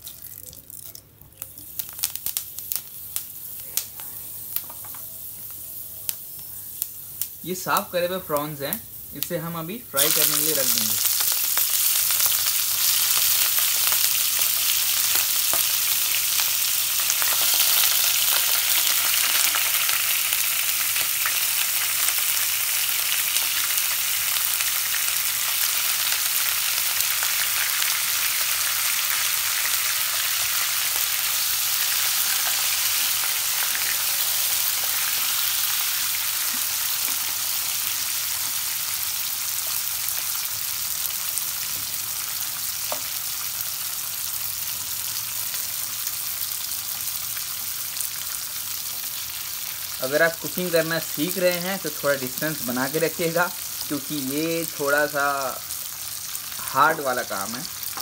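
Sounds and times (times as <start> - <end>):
prawns sizzling in hot oil: 0.0 - 58.0.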